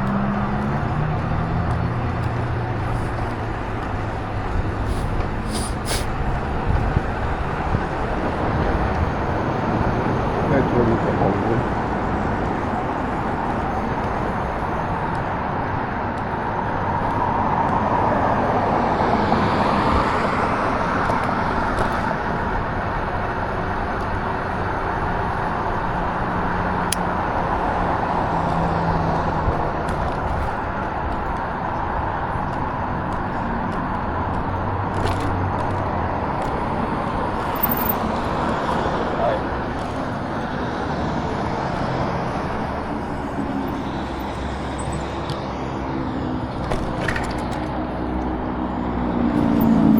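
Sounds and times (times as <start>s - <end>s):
moving vehicle wind and road noise: 0.0s - 49.9s.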